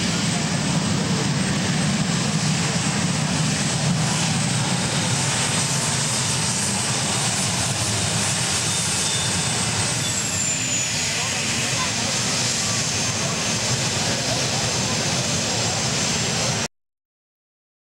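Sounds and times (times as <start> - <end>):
tractor engines running loudly: 0.0 - 16.7.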